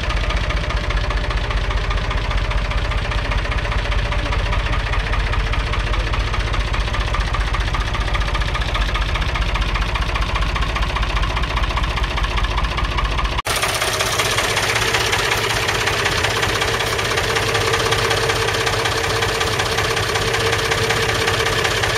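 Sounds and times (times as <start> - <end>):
diesel tractor engine idling: 0.0 - 21.9.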